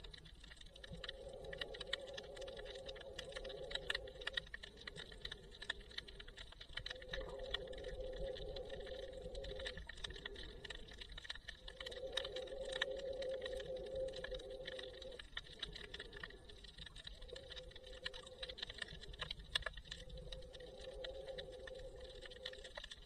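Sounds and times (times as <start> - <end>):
underwater crackle of clicks: 0.0 - 23.0.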